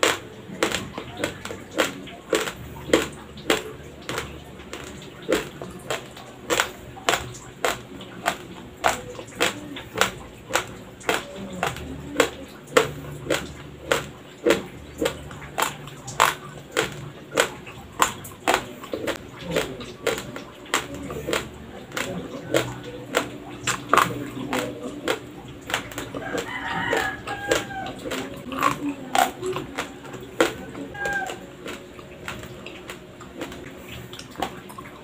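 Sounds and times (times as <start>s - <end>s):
rice grains being chewed: 0.0s - 35.0s.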